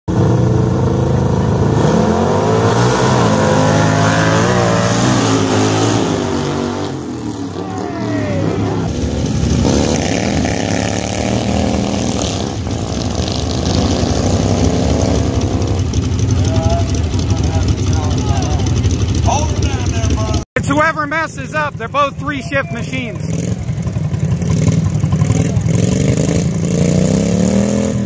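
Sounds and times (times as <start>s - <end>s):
lawn tractor engines revving: 0.1s - 28.0s.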